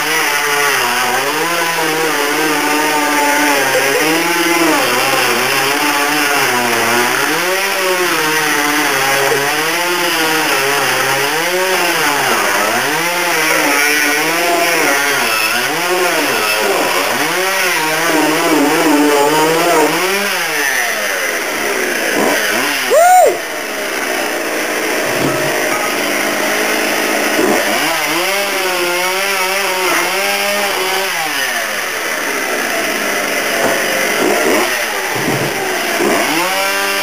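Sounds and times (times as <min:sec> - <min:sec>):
chainsaw revving and cutting: 0:00.0 - 0:37.0.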